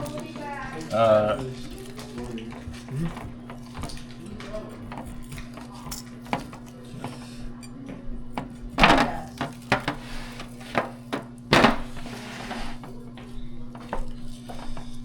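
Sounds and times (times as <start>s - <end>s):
kitchen knocking and clattering: 0.0s - 7.4s, 8.0s - 15.0s.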